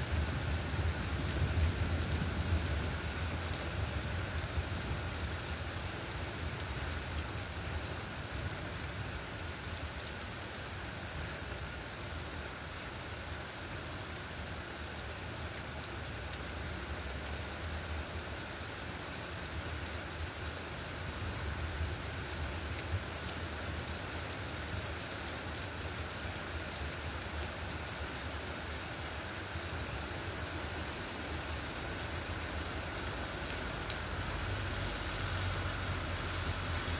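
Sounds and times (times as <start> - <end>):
heavy rain on street: 0.0 - 36.9.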